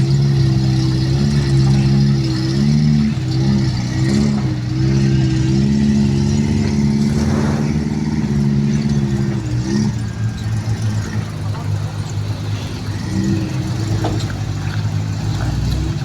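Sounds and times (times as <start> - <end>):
off-road engine revving: 0.0 - 16.0.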